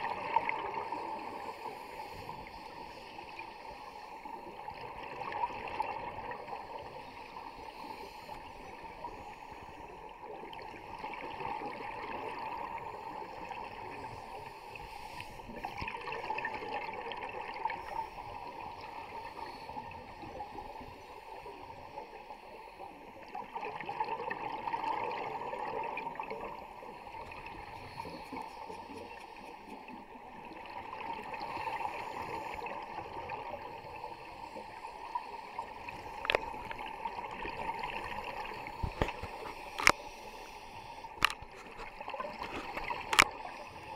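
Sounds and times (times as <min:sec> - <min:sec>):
exhaled bubbles underwater: 0:00.0 - 0:01.8, 0:02.5 - 0:07.6, 0:08.4 - 0:14.8, 0:15.4 - 0:22.3, 0:23.2 - 0:39.5
steady hiss of water: 0:00.0 - 0:43.9.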